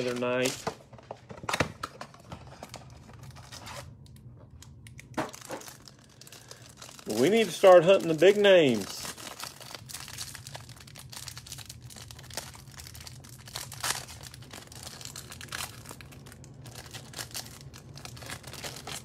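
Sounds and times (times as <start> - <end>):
plastic wrapper crackling: 0.0 - 0.9, 1.8 - 19.0
steady low hum: 0.0 - 19.0.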